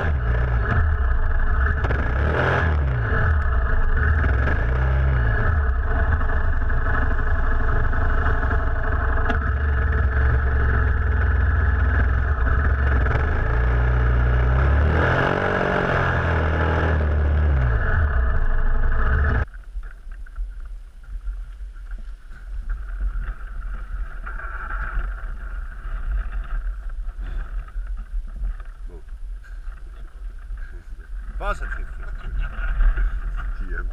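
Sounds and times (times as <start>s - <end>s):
motorcycle engine at speed: 0.0s - 19.6s, 20.2s - 33.9s.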